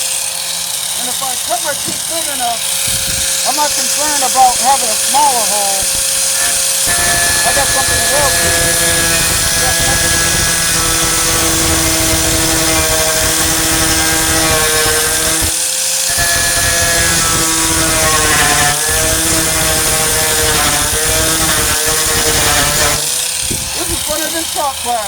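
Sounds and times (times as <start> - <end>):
angle grinder cutting sheet steel: 0.0 - 25.0.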